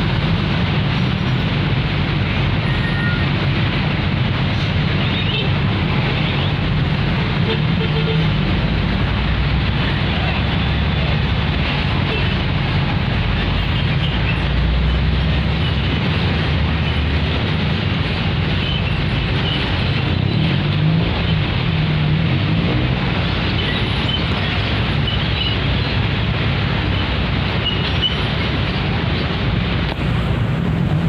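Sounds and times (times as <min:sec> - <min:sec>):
train rumbling on track: 0:00.0 - 0:31.0.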